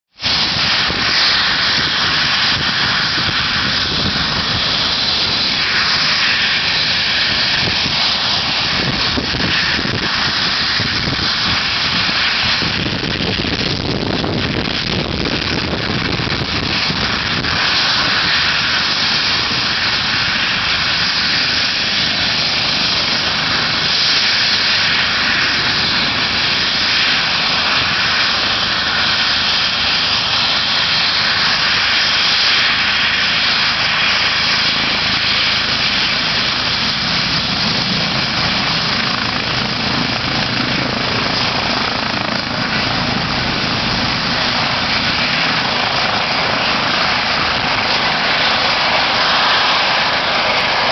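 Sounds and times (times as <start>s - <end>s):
helicopter turbines and rotor blades: 0.1s - 50.9s.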